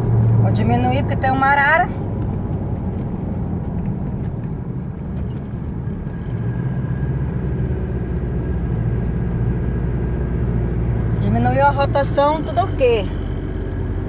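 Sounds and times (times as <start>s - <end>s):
vehicle interior drone: 0.0s - 14.0s.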